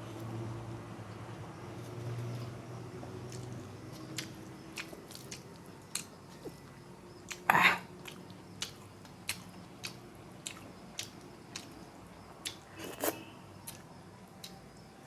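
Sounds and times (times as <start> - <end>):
person chewing and crunching food: 1.8 - 14.8.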